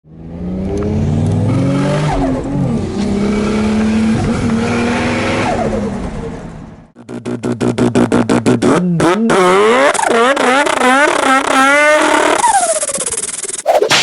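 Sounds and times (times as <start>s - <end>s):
car engine revving: 0.1s - 13.2s.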